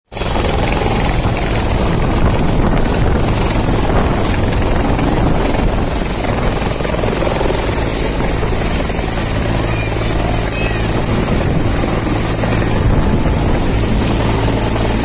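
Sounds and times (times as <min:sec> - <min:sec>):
helicopter rotor and engine: 0:00.1 - 0:15.0.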